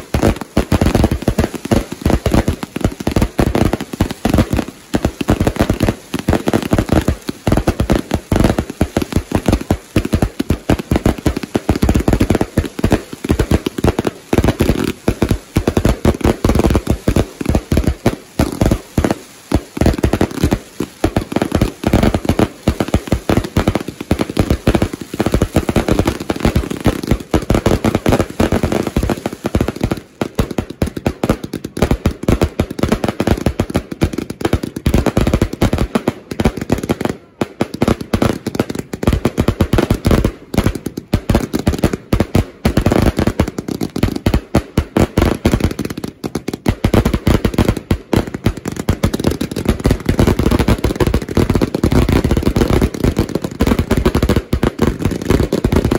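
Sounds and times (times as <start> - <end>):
fireworks banging rapidly: 0.0 - 55.9.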